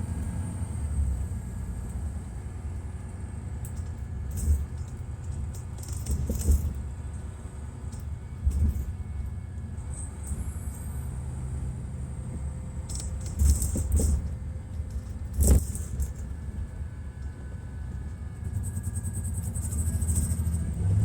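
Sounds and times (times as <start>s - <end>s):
diesel coach engine rumbling: 0.0s - 21.0s.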